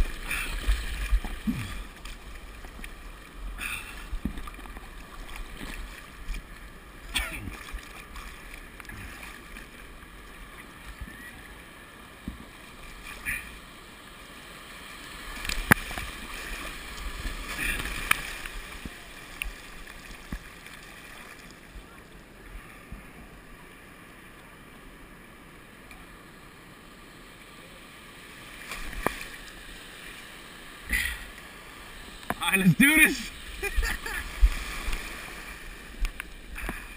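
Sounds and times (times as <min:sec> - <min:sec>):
muffled breaking surf: 0:00.0 - 0:36.9.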